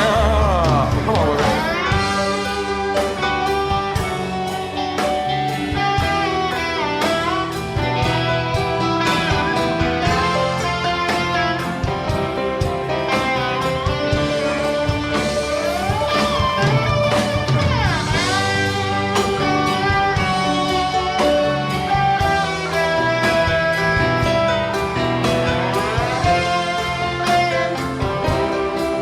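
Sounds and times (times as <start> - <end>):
electric guitar lead sliding notes: 0.0 - 29.0
live rock band playing: 0.0 - 29.0.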